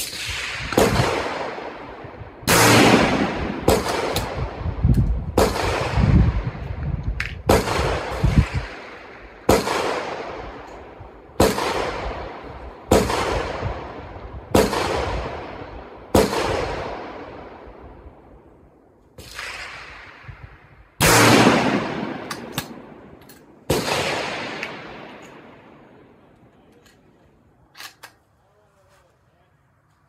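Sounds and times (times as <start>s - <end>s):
rifle shots echoing: 0.0s - 6.8s, 7.4s - 18.6s, 19.2s - 27.2s.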